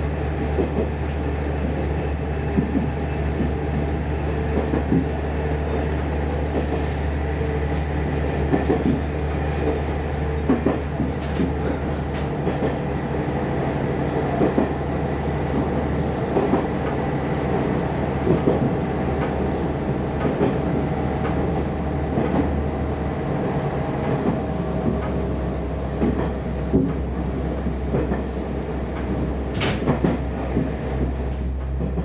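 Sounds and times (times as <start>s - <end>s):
railcar engine drone: 0.0s - 32.0s.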